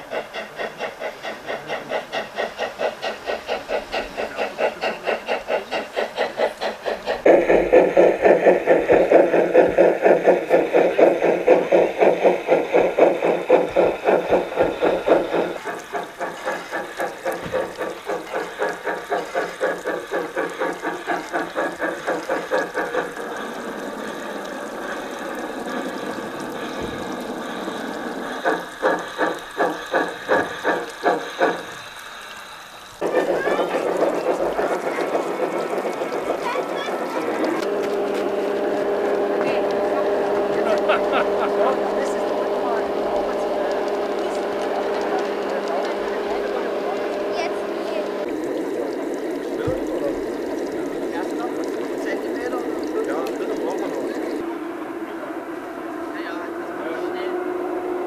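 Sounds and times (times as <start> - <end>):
steam hiss: 0.0 - 58.0
steam locomotive chuffing: 0.0 - 58.0.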